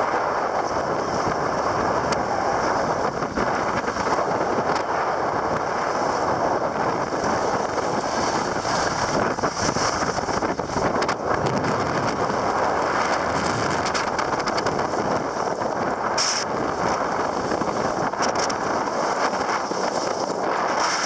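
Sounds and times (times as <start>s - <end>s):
skis carving on snow: 0.0s - 21.0s
wind rushing over microphone: 0.0s - 21.0s.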